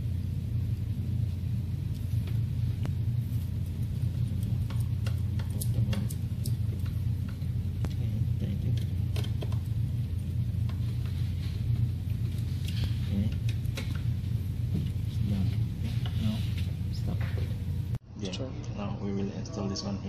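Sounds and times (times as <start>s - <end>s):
steady low rumble: 0.0s - 19.1s.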